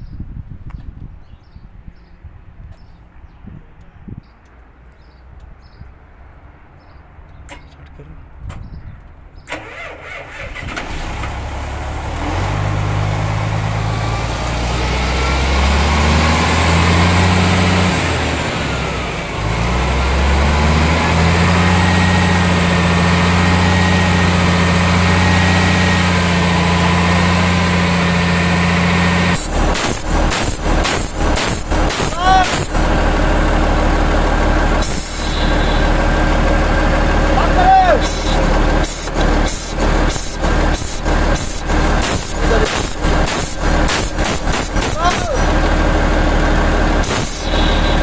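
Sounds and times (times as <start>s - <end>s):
truck diesel engine starting: 9.4s - 48.0s
diesel engine idling: 9.5s - 48.0s.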